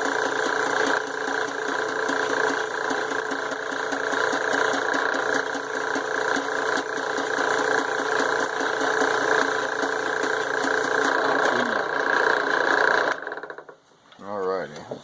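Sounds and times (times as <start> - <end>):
power drill boring steel: 0.0 - 13.7.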